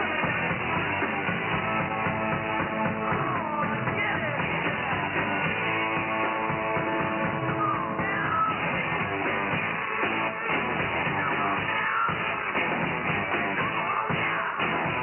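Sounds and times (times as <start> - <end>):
muffled rock music over radio: 0.0 - 15.0.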